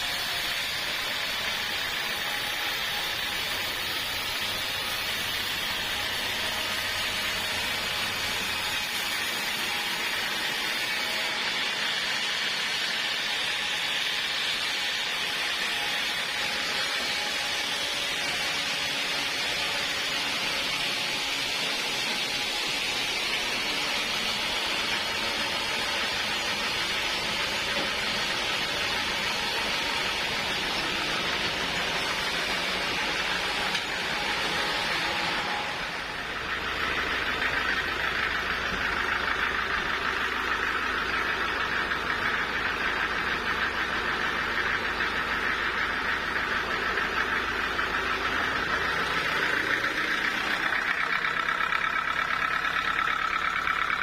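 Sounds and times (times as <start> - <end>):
saw blade cutting log: 0.0 - 54.0.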